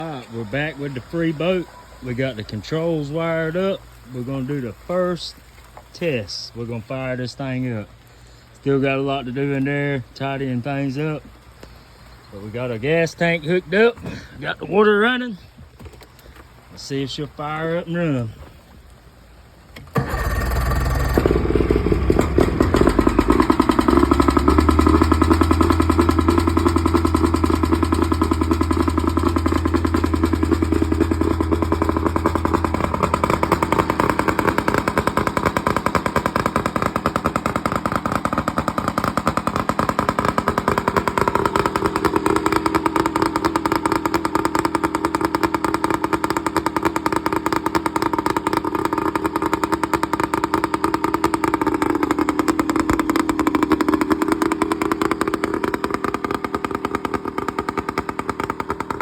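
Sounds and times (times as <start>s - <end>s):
boat engine starting and running: 0.0s - 59.0s.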